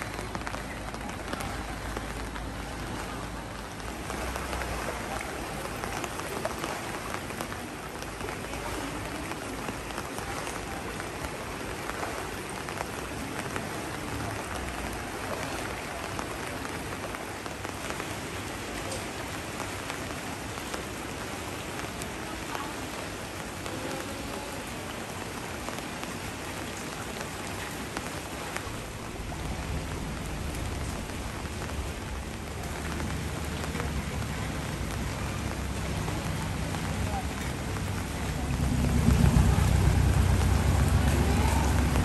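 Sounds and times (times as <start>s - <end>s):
rain falling on water: 0.0s - 42.0s.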